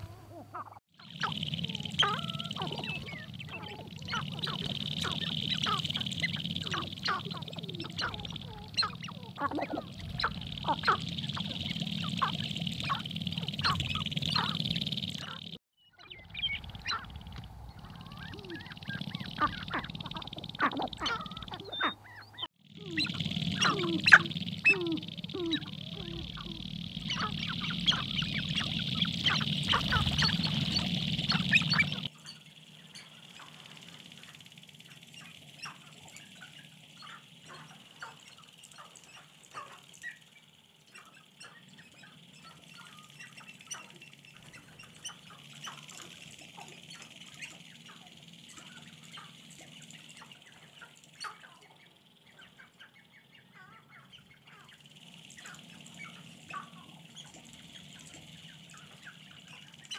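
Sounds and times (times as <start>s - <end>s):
grouse clucking and cackling: 0.0s - 59.9s.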